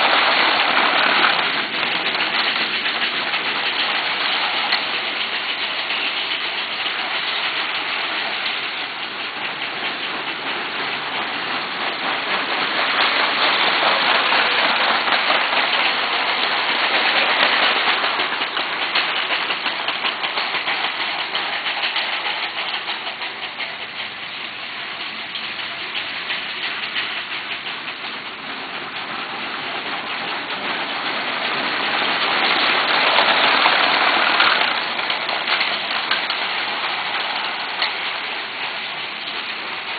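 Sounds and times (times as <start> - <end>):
toy train wheels clattering: 0.0 - 39.9.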